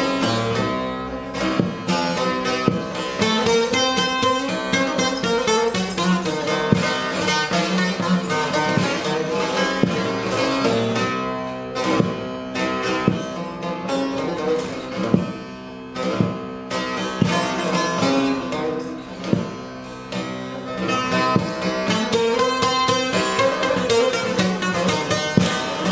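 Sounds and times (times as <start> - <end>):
plucked long-necked lute melody: 0.0 - 25.9.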